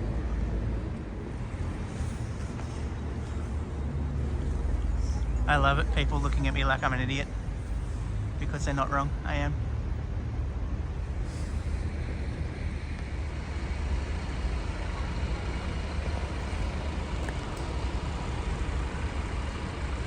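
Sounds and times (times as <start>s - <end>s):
heavy vehicles passing: 0.0s - 20.0s
road traffic rumble: 0.0s - 20.0s.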